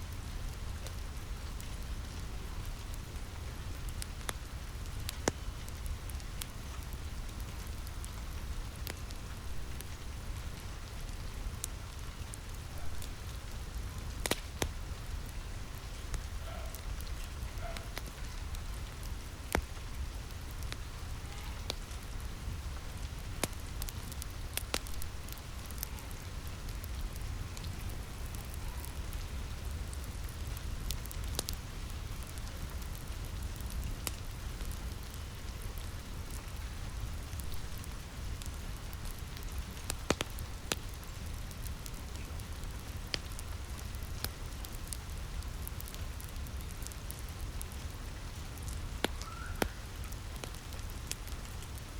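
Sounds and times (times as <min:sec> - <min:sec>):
steady rain falling: 0:00.0 - 0:51.9
wood fire crackling: 0:00.0 - 0:51.9.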